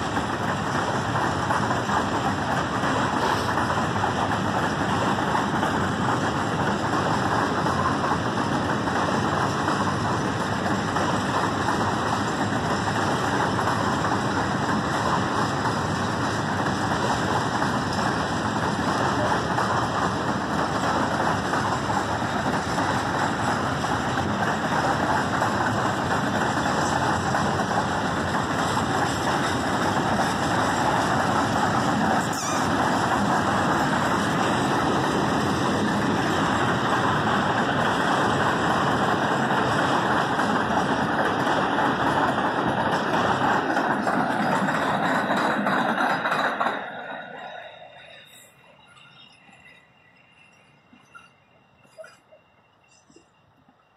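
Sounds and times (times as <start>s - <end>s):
locomotive machinery running: 0.0s - 53.9s.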